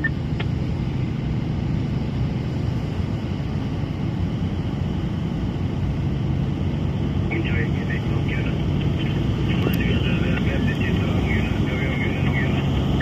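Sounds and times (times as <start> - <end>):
haul truck diesel engine droning: 0.0 - 13.0.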